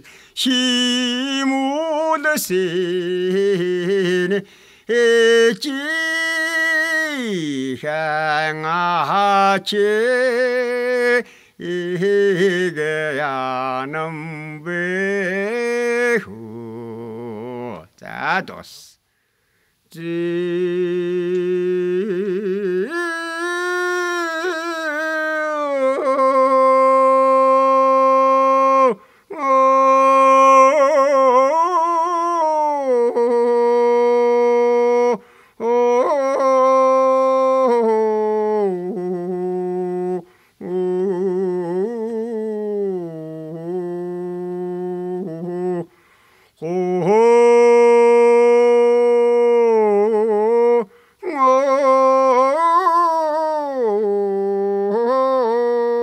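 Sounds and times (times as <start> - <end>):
man singing unaccompanied: 0.0 - 19.0, 19.8 - 56.0.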